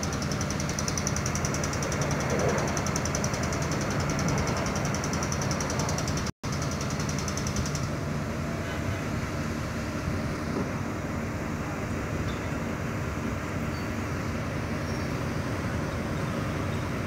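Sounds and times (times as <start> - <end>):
diesel engines idling: 0.0 - 17.0
high pulsing hiss: 0.0 - 17.0.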